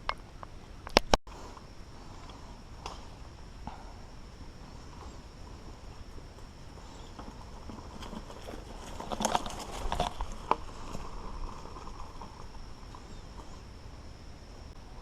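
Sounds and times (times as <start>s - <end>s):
bike rolling on dirt trail: 1.3s - 15.0s.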